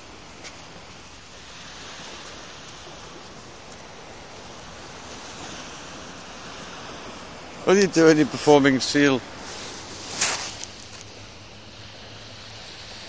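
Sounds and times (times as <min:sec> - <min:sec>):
distant surf: 0:00.0 - 0:13.0.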